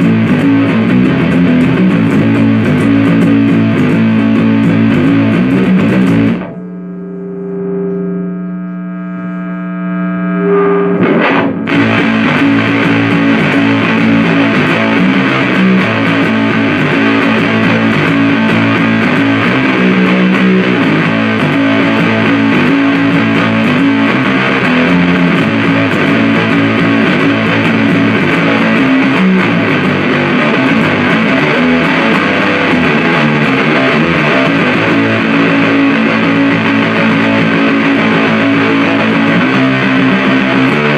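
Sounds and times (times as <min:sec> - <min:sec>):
fuzz electric guitar riffing: 0:00.0 - 0:40.9.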